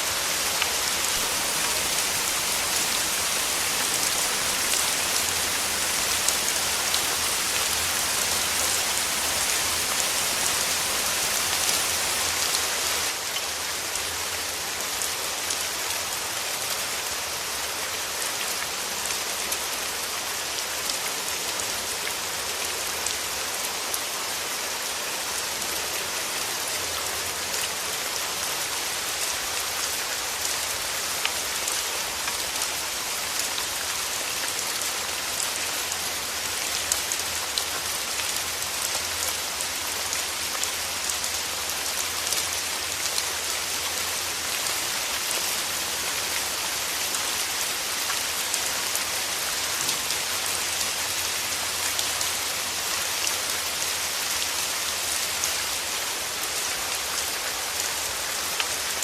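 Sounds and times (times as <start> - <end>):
rain drops ticking on a surface: 0.0 - 59.0.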